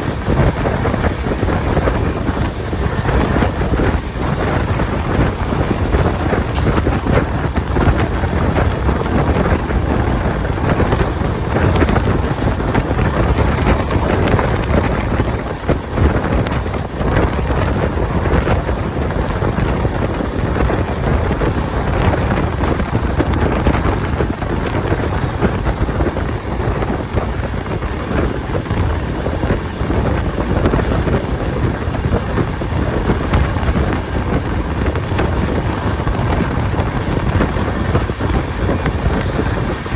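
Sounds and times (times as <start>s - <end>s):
train rumbling at speed: 0.0s - 39.9s
wind buffeting microphone: 0.0s - 39.9s.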